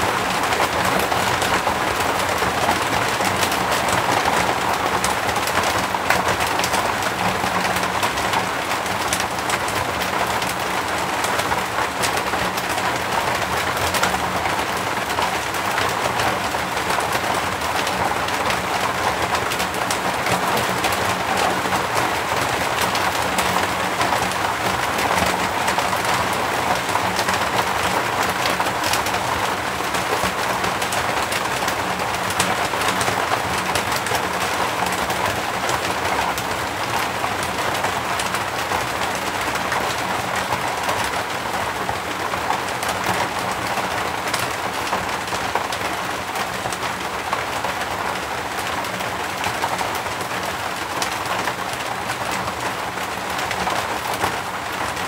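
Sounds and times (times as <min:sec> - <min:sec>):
rain on a cement roof: 0:00.0 - 0:55.0.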